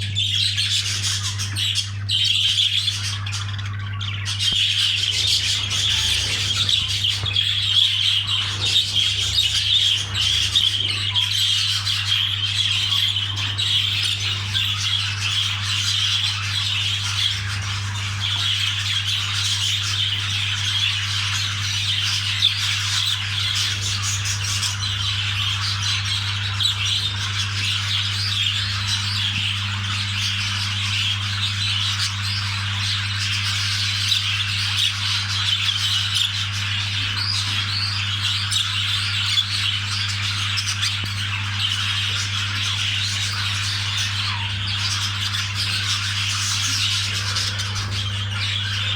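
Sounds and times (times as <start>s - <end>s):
budgerigars chattering and squawking: 0.0s - 48.9s
steady low hum: 0.0s - 48.9s.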